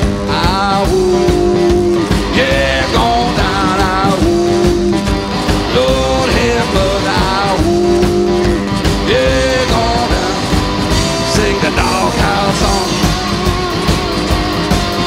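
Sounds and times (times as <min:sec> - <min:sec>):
electric guitar: 0:00.0 - 0:15.0
steady drum beat: 0:00.0 - 0:15.0.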